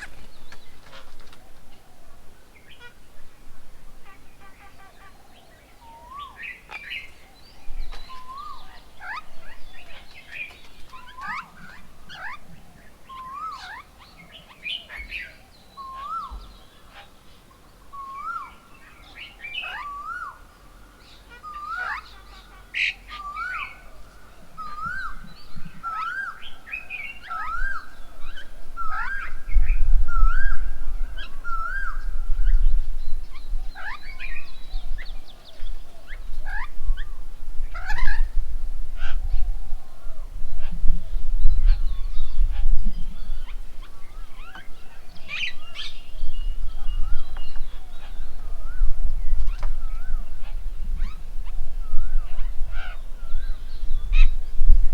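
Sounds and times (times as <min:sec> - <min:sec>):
bird chirps: 0:04.1 - 0:38.4, 0:40.6 - 0:54.7.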